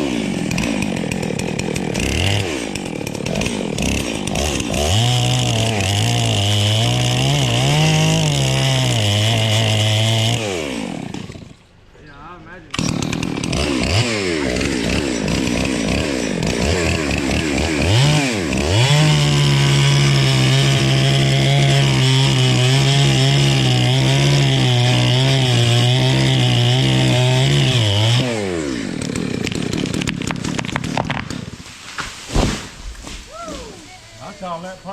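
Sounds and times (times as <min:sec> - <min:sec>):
chainsaw revving and cutting wood: 0:00.0 - 0:11.8, 0:12.7 - 0:33.2.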